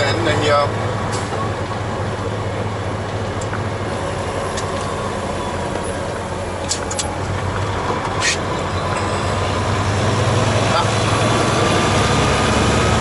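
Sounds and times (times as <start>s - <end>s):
road noise inside cab: 0.0s - 13.0s
truck diesel engine running: 0.0s - 13.0s.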